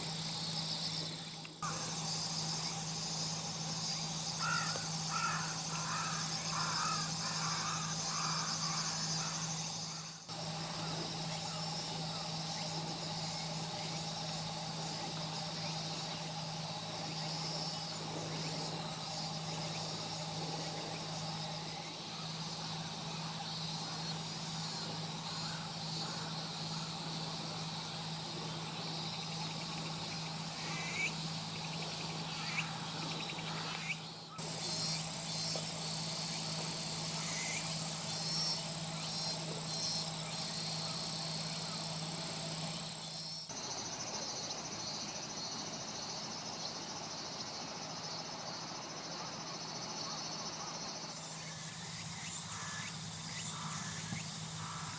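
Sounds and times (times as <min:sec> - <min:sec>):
insects stridulating: 0:00.0 - 0:54.9
steady low hum: 0:00.0 - 0:54.9.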